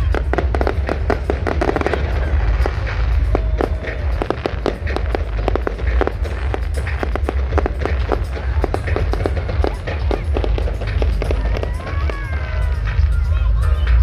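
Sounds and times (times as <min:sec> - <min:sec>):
fireworks cracks and bangs: 0:00.0 - 0:13.3
low rumble: 0:00.0 - 0:14.0.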